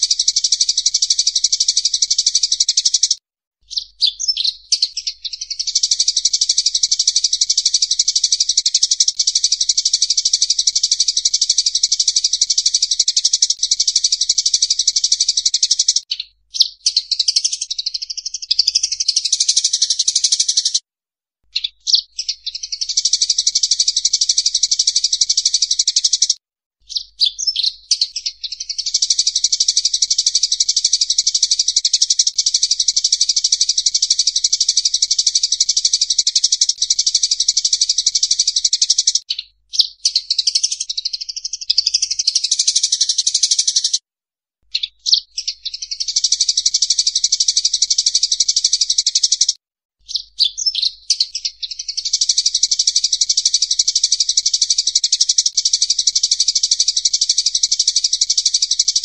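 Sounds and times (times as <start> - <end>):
sparrows chattering: 0.0 - 20.8, 21.5 - 44.0, 44.7 - 59.0.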